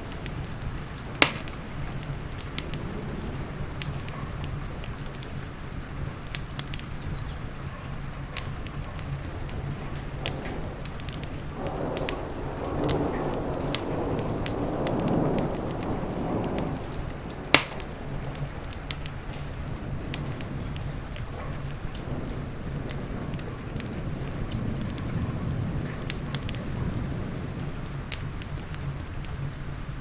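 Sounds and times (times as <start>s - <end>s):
low rumble: 0.0s - 30.0s
steady rain: 0.0s - 30.0s
wood fire crackling and popping: 0.0s - 30.0s.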